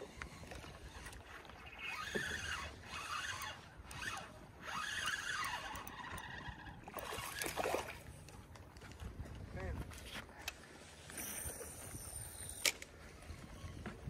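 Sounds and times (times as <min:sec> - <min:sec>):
fishing reel whirring: 0:00.0 - 0:08.2, 0:10.8 - 0:13.9.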